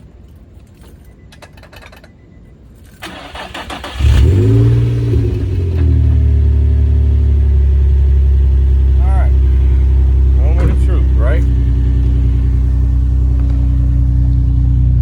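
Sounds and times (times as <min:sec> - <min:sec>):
car engine starting and idling: 0:00.6 - 0:15.0.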